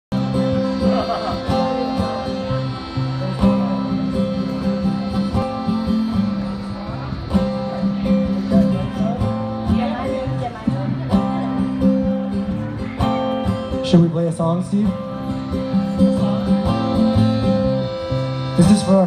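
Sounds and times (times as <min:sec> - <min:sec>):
accordion chords: 0:00.1 - 0:19.0
acoustic guitar strumming: 0:00.1 - 0:19.0.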